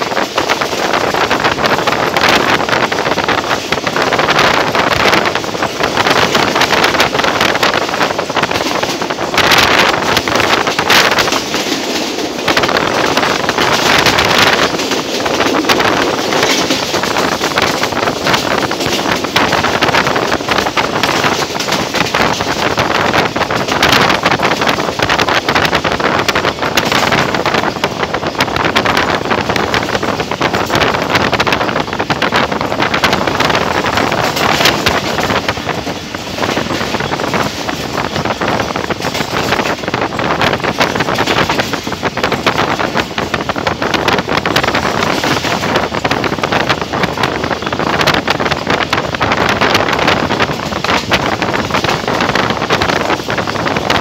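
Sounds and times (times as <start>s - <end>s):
sharp rail clacks: 0.0s - 54.0s
train wheels rumbling on rails: 0.0s - 54.0s
wind buffeting microphone: 0.0s - 54.0s.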